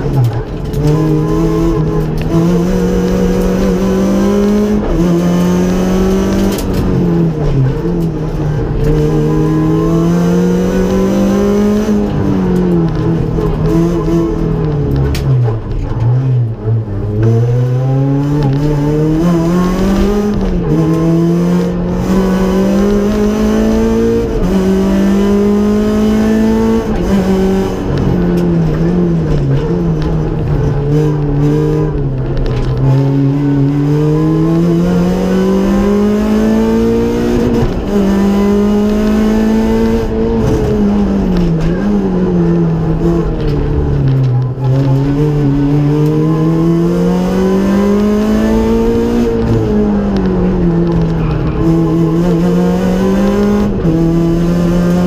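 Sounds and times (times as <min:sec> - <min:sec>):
rally car engine accelerating: 0:00.0 - 0:55.0.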